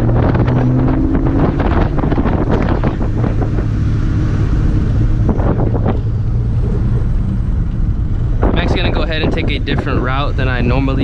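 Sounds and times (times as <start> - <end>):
car exhaust drone from inside: 0.0 - 11.0.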